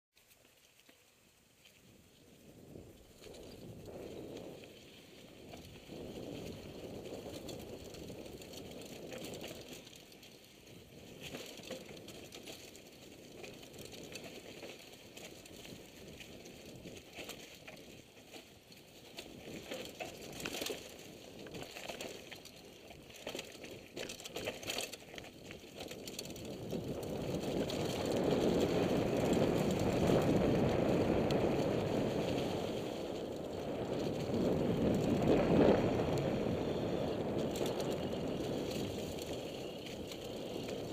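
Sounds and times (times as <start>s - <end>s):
bike tyres rolling on dirt: 0.2s - 40.9s
bike rattling and clicking: 2.6s - 40.9s.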